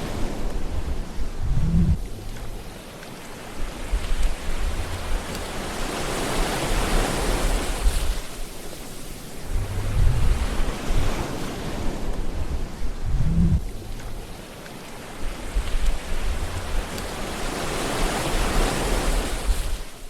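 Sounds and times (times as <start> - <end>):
ocean waves breaking on shore: 0.0 - 20.0
wind rumbling on microphone: 0.0 - 20.0.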